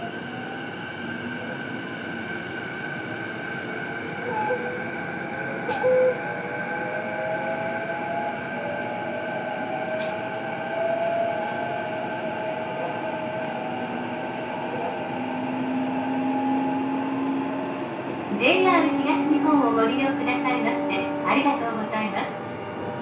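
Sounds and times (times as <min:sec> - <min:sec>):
train rail noise: 0:00.0 - 0:23.0.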